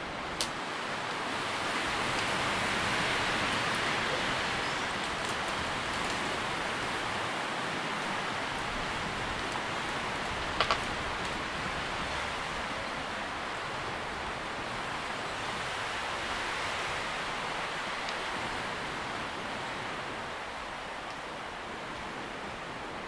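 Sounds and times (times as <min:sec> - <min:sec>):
tree leaves rustling in wind: 0:00.0 - 0:23.0.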